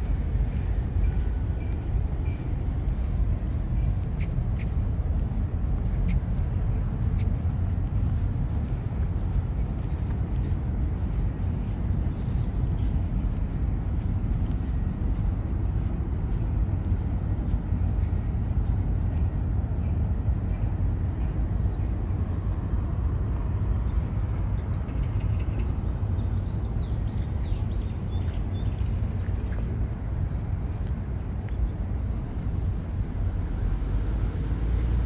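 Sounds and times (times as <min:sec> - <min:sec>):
city park ambient rumble: 0:00.0 - 0:35.0.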